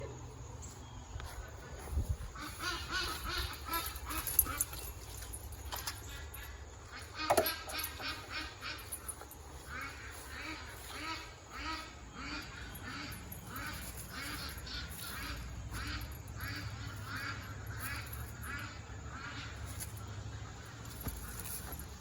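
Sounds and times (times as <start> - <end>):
poultry calling: 1.2 - 21.9.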